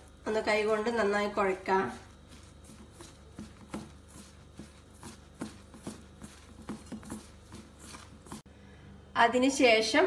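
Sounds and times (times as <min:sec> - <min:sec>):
hand squishing batter in metal bowl: 0:00.0 - 0:08.5.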